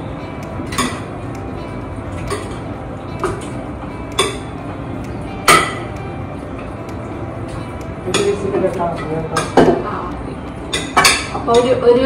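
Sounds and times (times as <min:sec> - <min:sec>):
steady hum: 0:00.0 - 0:12.0
metal spoon clinking against bowl: 0:00.4 - 0:11.8.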